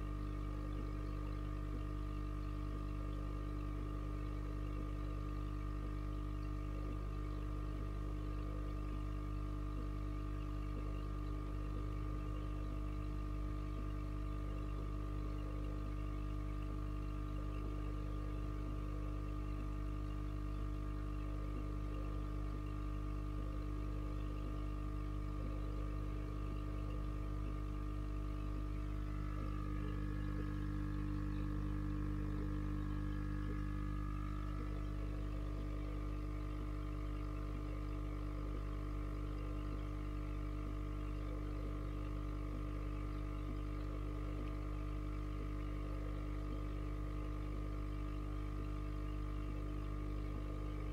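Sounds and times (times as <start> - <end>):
aquarium equipment humming: 0.0 - 50.9.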